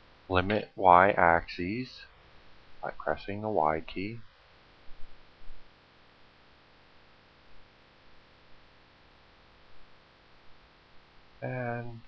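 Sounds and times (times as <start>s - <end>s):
faint hiss and hum: 0.0s - 12.0s.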